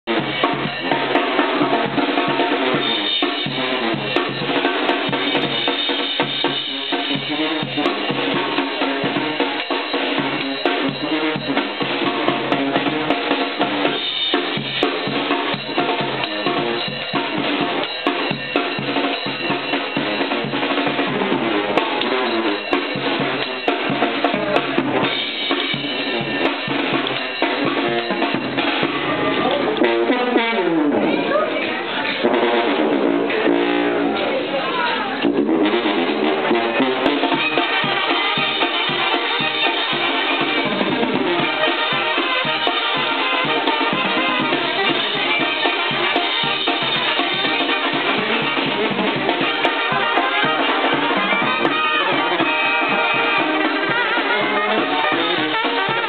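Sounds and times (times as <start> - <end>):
brass band playing: 0.0 - 56.0
drum kit with snare and bass drum: 0.0 - 56.0.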